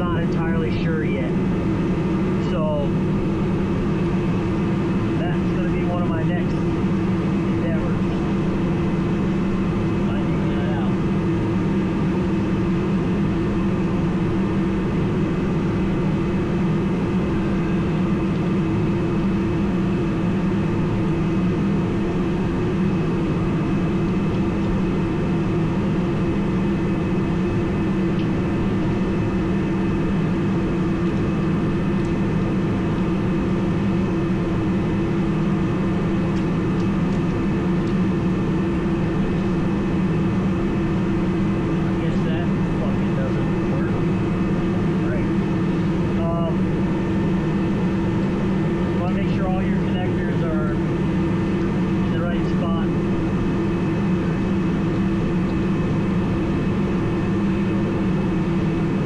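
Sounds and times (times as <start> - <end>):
heater droning: 0.0 - 59.0.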